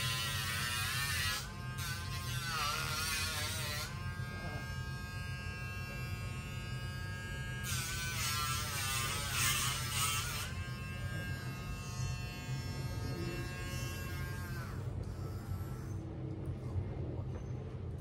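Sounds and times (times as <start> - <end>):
grinder rasping on toenail: 0.0 - 16.0.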